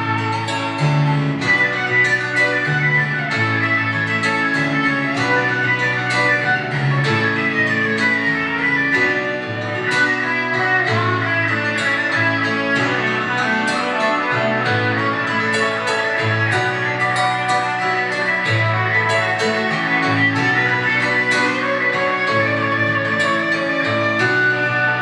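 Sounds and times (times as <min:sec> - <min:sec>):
guitar playing: 0:00.0 - 0:25.0
piano playing: 0:00.0 - 0:25.0.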